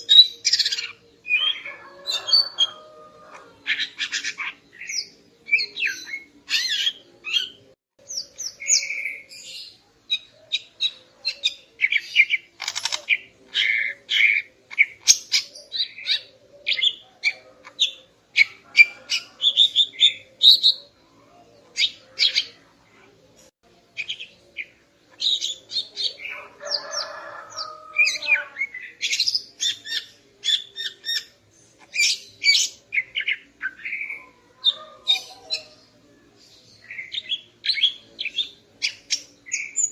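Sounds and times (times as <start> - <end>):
bird chirping and twittering: 0.0 - 23.2, 23.9 - 39.9.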